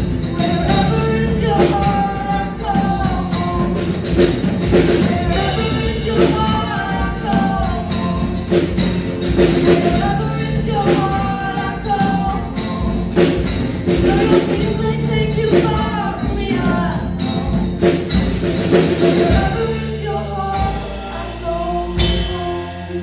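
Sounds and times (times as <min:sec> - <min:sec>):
drum kit: 0:00.0 - 0:23.0
strummed acoustic guitar: 0:00.0 - 0:23.0
woman singing: 0:00.2 - 0:18.2, 0:18.8 - 0:23.0.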